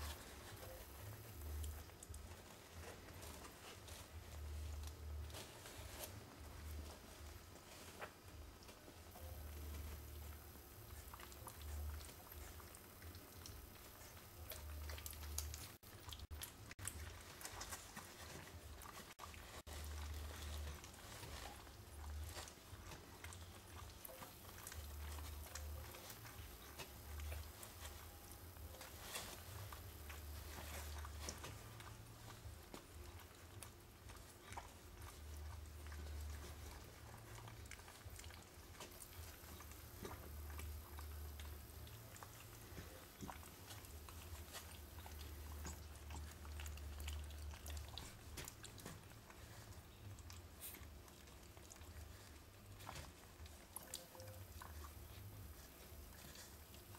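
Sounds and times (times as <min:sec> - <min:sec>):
puppies suckling: 0:00.0 - 0:56.9.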